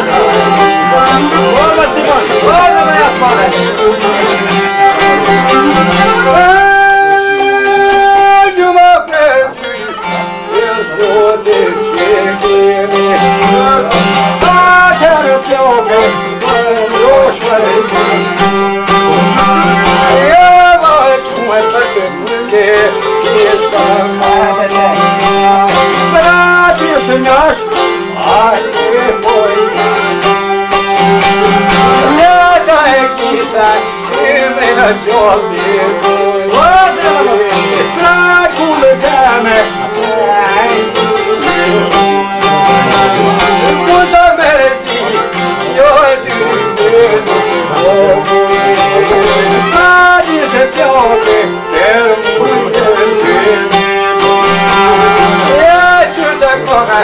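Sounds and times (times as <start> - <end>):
bowed violin: 0.0 - 57.0
man singing: 0.0 - 57.0
plucked lutes: 0.0 - 57.0.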